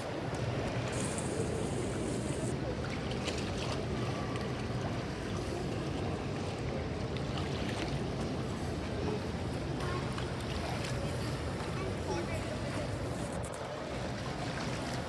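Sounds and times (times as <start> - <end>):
water lapping around boat: 0.0 - 15.0.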